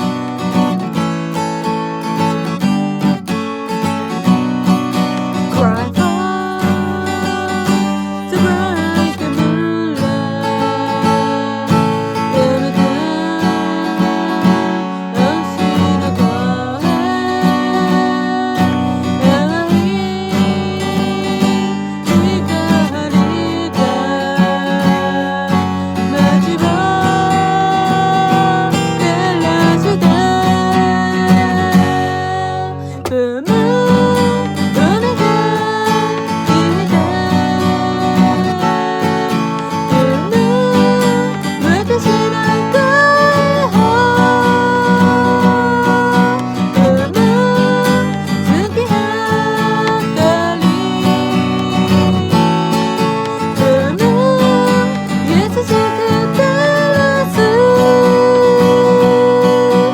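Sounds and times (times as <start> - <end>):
acoustic guitar strumming: 0.0 - 59.9
person singing: 3.9 - 59.9.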